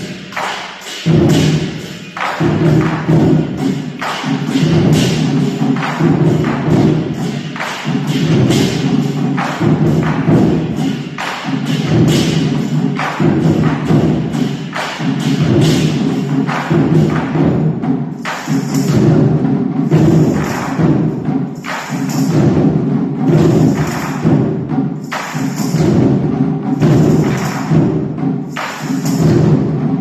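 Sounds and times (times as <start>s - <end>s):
percussion music with drums: 0.0s - 30.0s.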